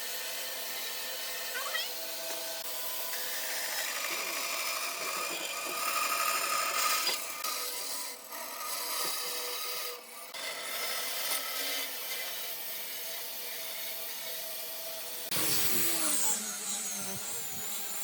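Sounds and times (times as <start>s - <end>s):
power tool working wood: 0.0s - 18.0s.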